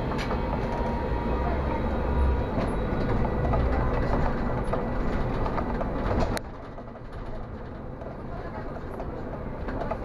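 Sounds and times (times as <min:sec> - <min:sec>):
faint steady whines: 0:00.0 - 0:10.0
tram rumbling on rails: 0:00.0 - 0:10.0.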